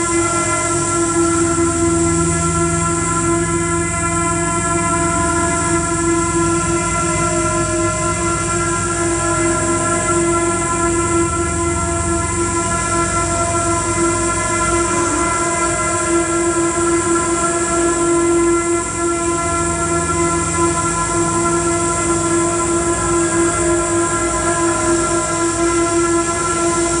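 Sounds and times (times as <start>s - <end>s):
electronic drone of held tones: 0.0s - 27.0s.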